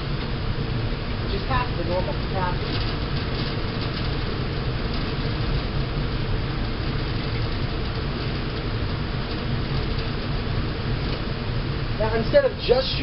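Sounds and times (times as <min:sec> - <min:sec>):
ventilation fans rumbling: 0:00.0 - 0:13.0.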